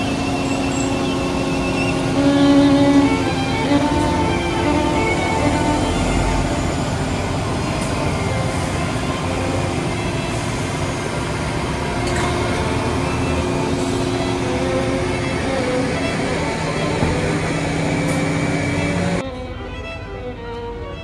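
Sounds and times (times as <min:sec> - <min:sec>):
diesel engines running: 0:00.0 - 0:21.0
trailer rolling past: 0:00.0 - 0:21.0.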